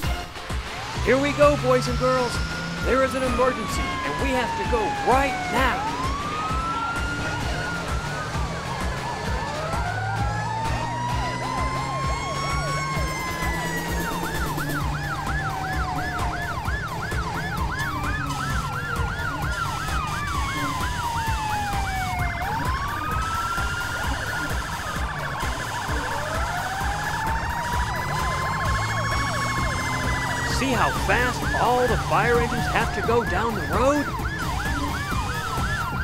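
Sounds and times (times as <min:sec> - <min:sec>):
siren slow wail: 0:00.0 - 0:36.0
siren fast yelp: 0:00.7 - 0:36.0
siren rapid high warble: 0:00.7 - 0:36.0.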